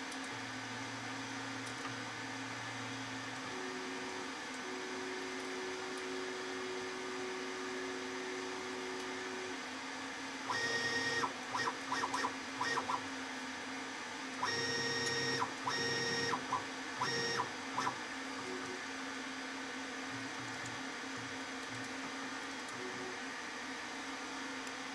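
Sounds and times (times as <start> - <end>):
steady electrical hum: 0.0 - 24.9.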